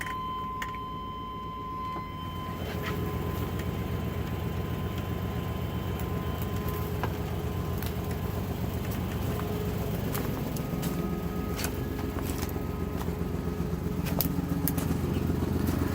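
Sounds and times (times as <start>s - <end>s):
car engine idling: 0.0s - 15.9s.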